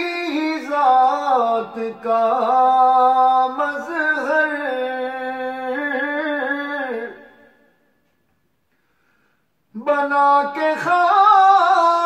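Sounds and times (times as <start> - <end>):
man singing into a microphone: 0.0 - 7.8, 9.7 - 12.0.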